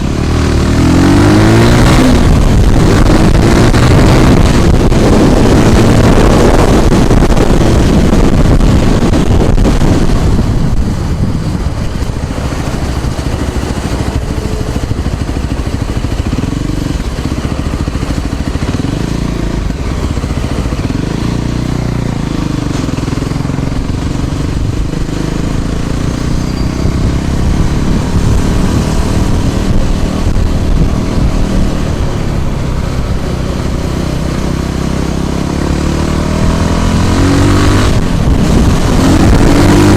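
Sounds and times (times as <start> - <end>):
road noise: 0.0 - 39.9
wind on microphone: 0.0 - 39.9.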